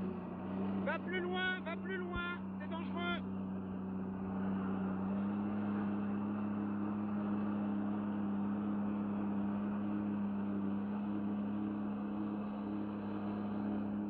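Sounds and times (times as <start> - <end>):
jet ski engine drone: 0.0 - 14.0.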